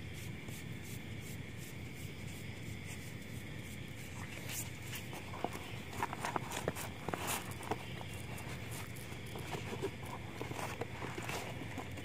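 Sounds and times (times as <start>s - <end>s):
insect trill: 0.0s - 12.0s.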